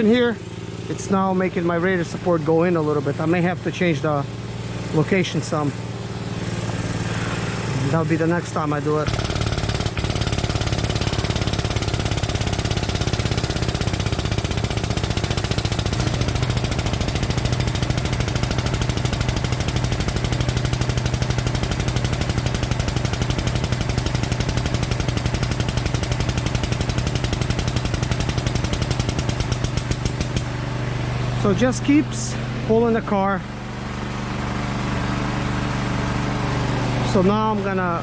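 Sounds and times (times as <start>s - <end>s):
machine chattering and humming: 2.8s - 38.0s.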